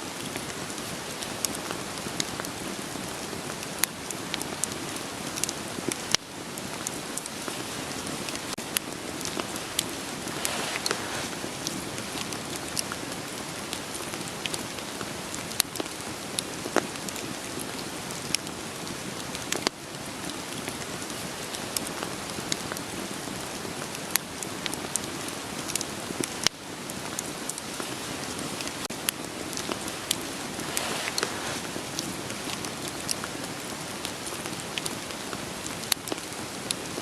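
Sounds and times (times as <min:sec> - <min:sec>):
steady rain falling: 0:00.0 - 0:37.0
firewood crackling: 0:00.1 - 0:37.0.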